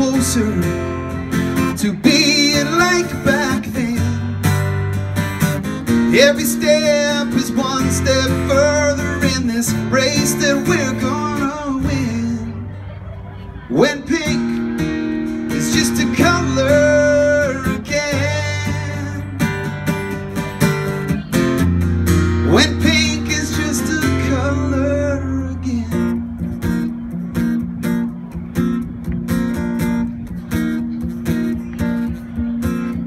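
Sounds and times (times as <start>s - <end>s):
acoustic guitars strumming: 0.0s - 33.0s.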